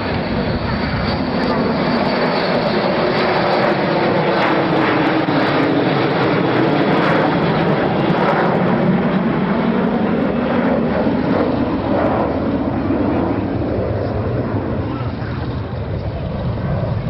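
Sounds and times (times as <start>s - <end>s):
aircraft engine rushing: 0.0s - 17.0s.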